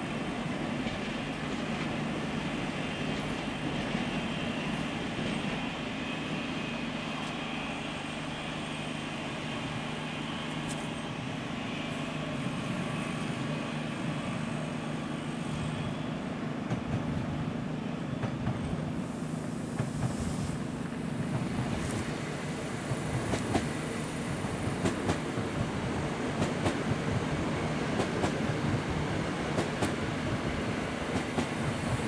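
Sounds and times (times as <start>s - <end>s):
low hum of trains: 0.0s - 32.0s
rail noise: 0.0s - 32.0s.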